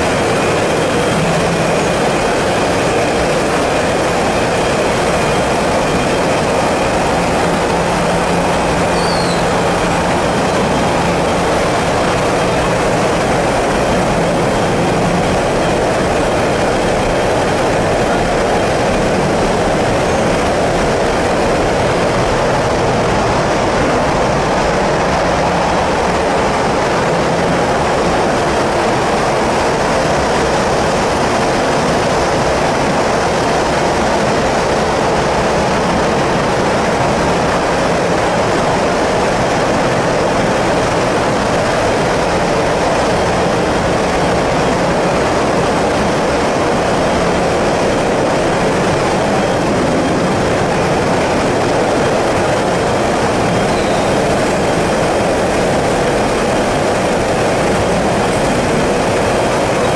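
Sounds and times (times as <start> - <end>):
machine and fan noise: 0.0 - 59.9.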